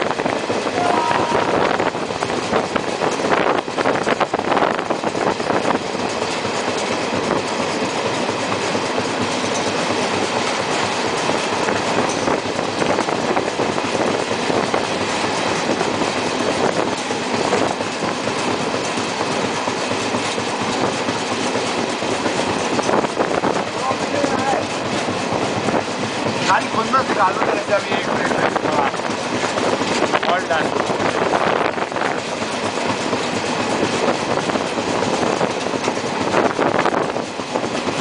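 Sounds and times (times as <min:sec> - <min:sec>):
train rumbling along track: 0:00.0 - 0:38.0
wheels clattering over rail joints: 0:00.0 - 0:38.0.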